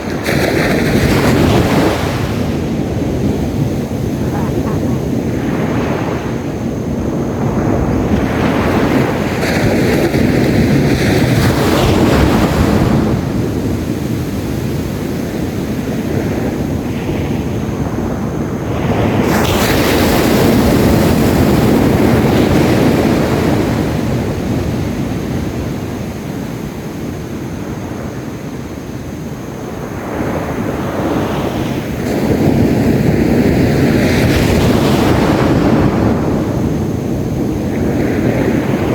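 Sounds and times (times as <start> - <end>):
waves breaking on beach: 0.0 - 38.9
wind rumbling on microphone: 0.0 - 38.9.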